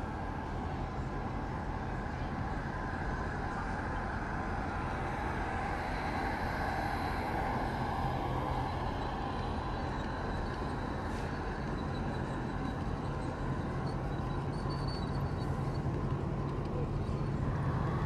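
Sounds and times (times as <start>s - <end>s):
model train rumbling hum: 0.0s - 18.0s.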